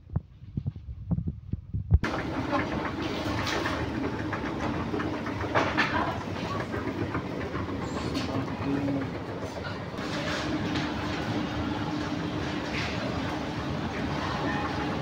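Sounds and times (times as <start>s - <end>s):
escalator rumbling: 1.4s - 15.0s.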